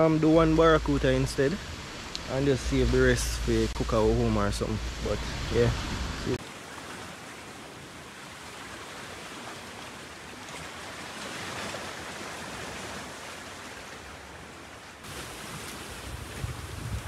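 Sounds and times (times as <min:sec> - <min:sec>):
waves lapping on rocky shore: 0:00.0 - 0:17.0.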